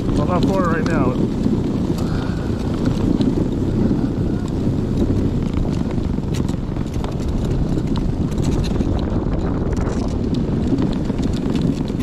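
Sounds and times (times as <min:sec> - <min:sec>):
electric snow bike rumble: 0:00.0 - 0:12.0
tracks churning snow: 0:00.0 - 0:12.0
wind buffeting microphone: 0:00.0 - 0:12.0.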